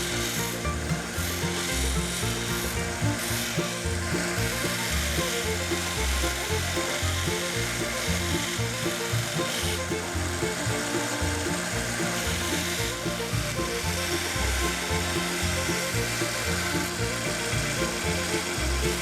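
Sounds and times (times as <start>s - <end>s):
lively reel music: 0.0s - 19.0s.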